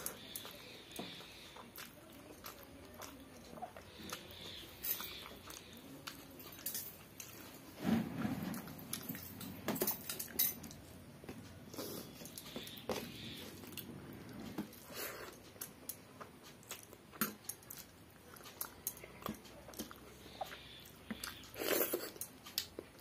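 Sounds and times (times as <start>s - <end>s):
close-up chewing: 0.0s - 7.8s, 11.5s - 23.0s.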